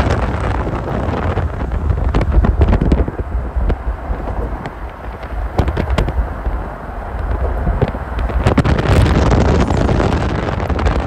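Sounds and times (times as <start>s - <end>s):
deep steady rumble: 0.0s - 11.0s
wind buffeting microphone: 0.0s - 11.0s.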